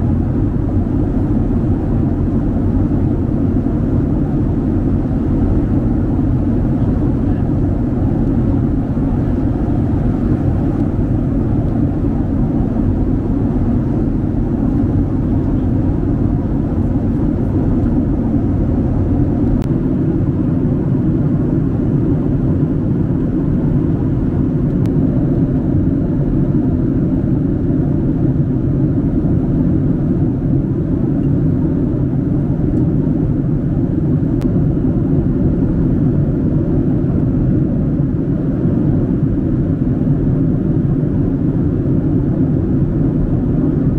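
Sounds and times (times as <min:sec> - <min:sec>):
airliner cabin drone: 0:00.0 - 0:43.9.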